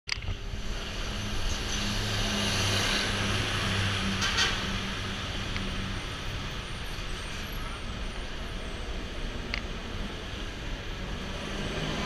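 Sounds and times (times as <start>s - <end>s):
city traffic noise: 0.1s - 12.0s.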